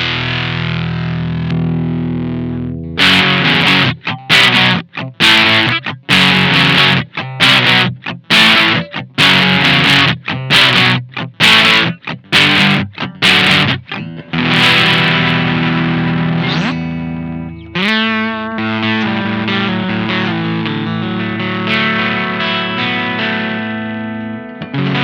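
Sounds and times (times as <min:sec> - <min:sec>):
fuzz electric guitar chords: 0:00.0 - 0:25.0.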